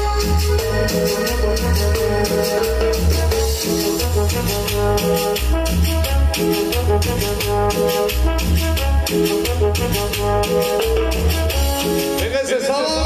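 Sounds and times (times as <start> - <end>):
shaker-like percussion: 0.0 - 12.3
latin dance music with brass: 0.0 - 13.0.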